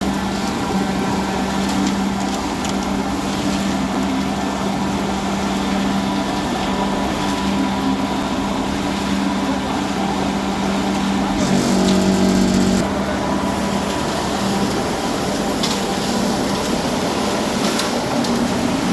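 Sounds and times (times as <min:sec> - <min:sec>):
concrete mixer droning: 0:00.0 - 0:18.9.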